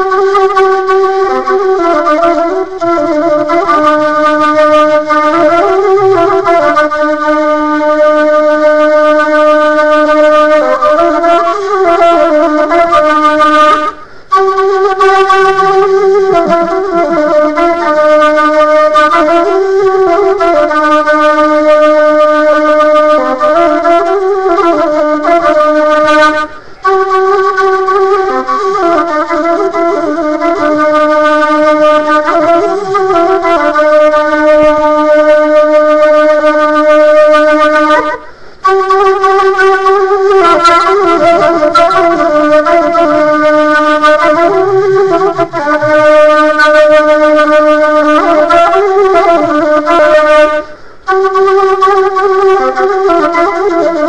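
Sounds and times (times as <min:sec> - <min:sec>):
instrumental background music: 0:00.0 - 0:54.0.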